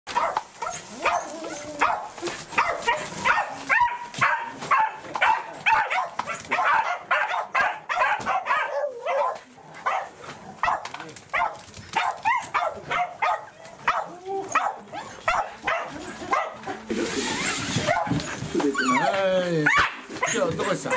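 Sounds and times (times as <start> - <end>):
dog yelping and whining: 0.2 - 4.4, 5.7 - 10.0, 12.2 - 20.9.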